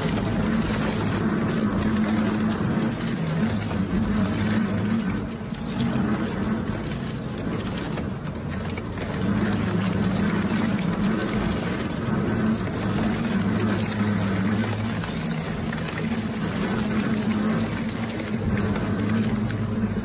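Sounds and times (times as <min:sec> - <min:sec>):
shredding machine grinding: 0:00.0 - 0:20.0.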